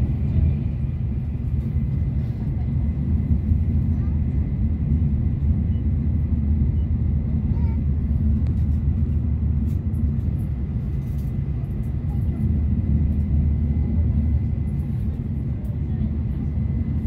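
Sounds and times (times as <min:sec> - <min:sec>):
train cabin low rumble: 0:00.0 - 0:17.0.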